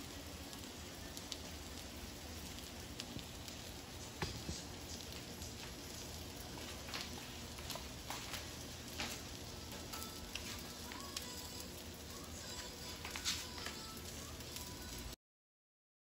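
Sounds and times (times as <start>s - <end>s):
food frying in oil: 0.0s - 15.2s.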